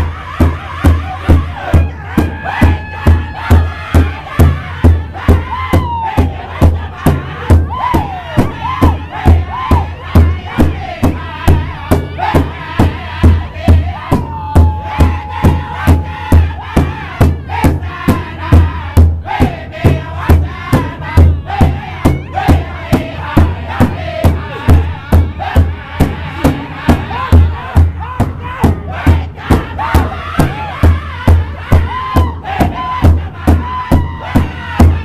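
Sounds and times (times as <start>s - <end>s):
group singing in high voices: 0.0s - 35.0s
large hide drum beat: 0.0s - 35.0s.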